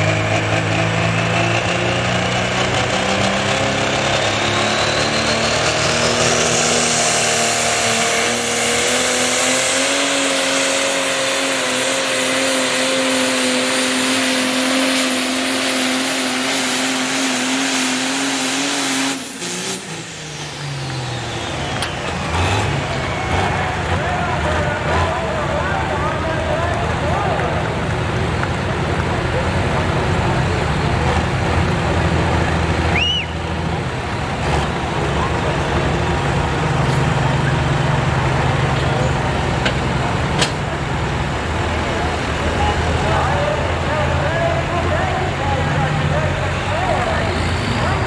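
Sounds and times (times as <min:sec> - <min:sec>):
tractor diesel engine at full throttle: 0:00.0 - 0:48.0.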